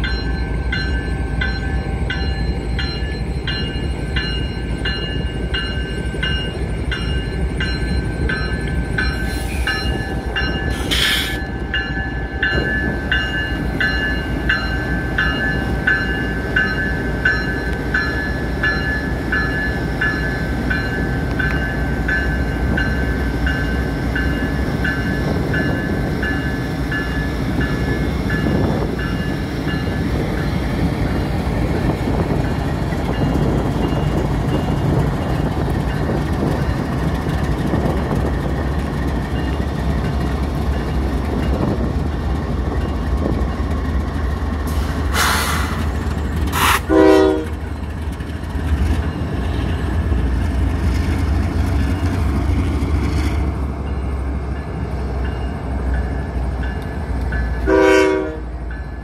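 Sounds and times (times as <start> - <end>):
diesel locomotives rumbling past: 0.0 - 59.0.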